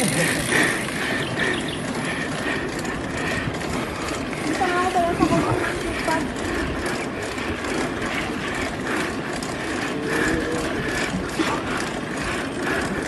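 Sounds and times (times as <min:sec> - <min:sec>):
bicycle freewheel ticking: 0:00.0 - 0:13.0
steady rushing noise: 0:00.0 - 0:13.0.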